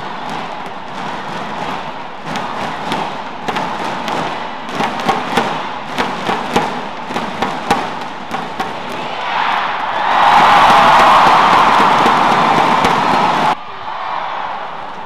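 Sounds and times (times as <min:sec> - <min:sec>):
rackets hitting shuttlecock: 0:00.0 - 0:13.6
crowd noise: 0:00.0 - 0:15.0.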